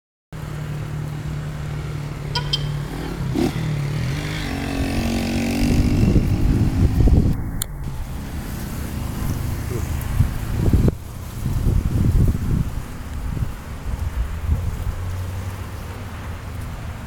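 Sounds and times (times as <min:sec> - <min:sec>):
vehicle engine humming: 0:00.4 - 0:17.0.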